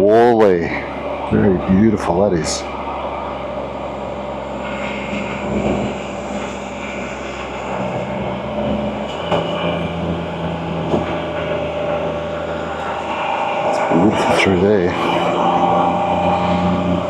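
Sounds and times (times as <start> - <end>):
wind rush and road noise: 0.0 - 17.0.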